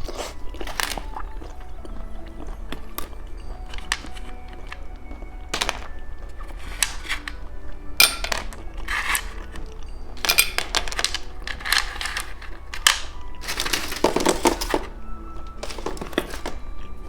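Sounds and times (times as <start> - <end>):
candy packaging crackling: 0.0 - 17.0.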